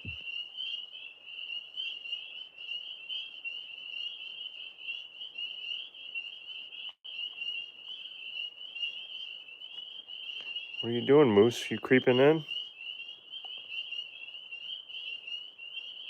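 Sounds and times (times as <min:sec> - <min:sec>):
chorus of frogs calling: 0:00.0 - 0:16.0.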